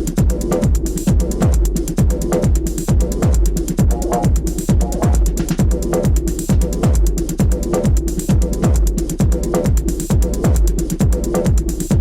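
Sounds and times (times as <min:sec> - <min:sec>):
electronic dance music: 0:00.0 - 0:12.0
kick drum beat: 0:00.0 - 0:12.0
ticking hi-hats: 0:00.0 - 0:12.0.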